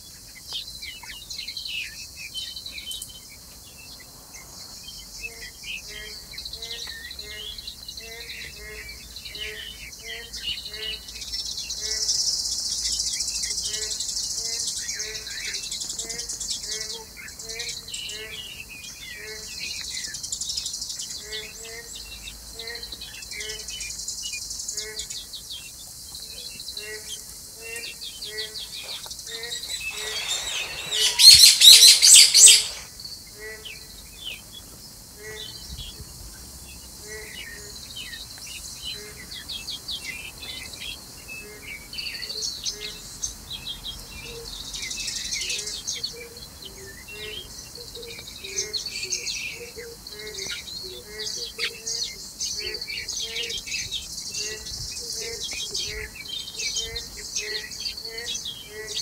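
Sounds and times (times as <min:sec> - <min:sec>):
faint insect hiss: 0:00.0 - 0:59.0
small birds chirping: 0:00.0 - 0:59.0.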